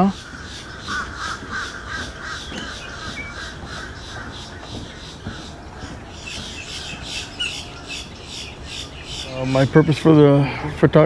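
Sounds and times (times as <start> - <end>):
wetland birds calling: 0.0 - 11.0.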